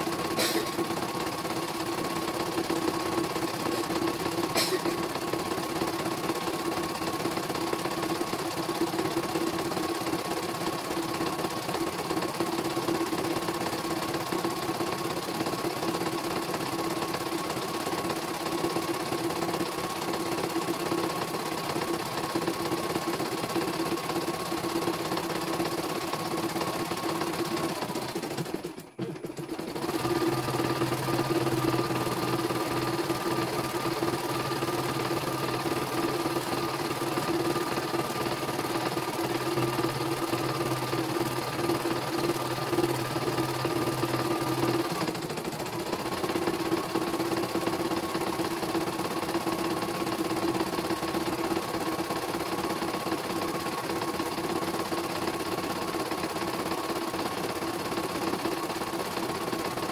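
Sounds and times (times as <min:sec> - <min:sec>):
embroidery machine stitching hum: 0:00.0 - 0:59.9.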